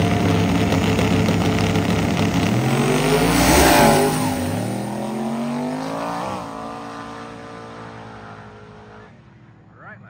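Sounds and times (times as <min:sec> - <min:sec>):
drag cars accelerating: 0:00.0 - 0:09.7.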